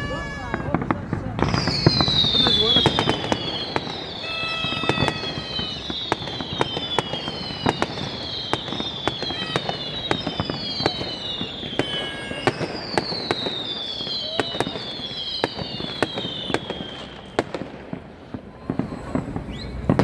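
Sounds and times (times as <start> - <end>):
falling firework whistles: 0.0 - 20.0
fireworks bangs and cracks: 0.0 - 20.0.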